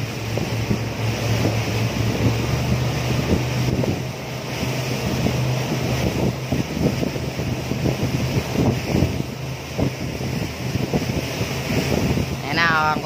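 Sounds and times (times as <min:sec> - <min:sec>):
speedboat engine droning: 0:00.0 - 0:13.0
wind buffeting microphone: 0:00.0 - 0:13.0.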